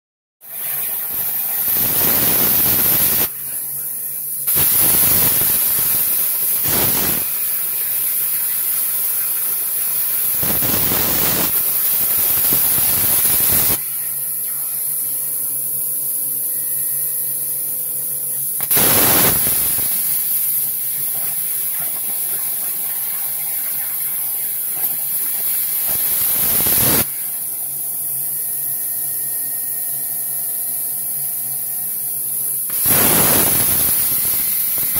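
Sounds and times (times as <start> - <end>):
plasma torch cutting hiss: 0.4 - 34.9
steady hiss and hum: 1.1 - 34.9.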